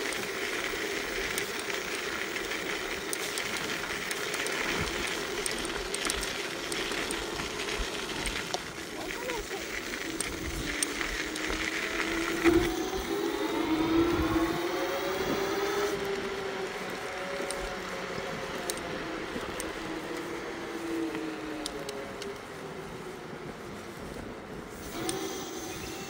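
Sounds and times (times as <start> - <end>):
electric scooter motor whining: 0.0 - 26.0.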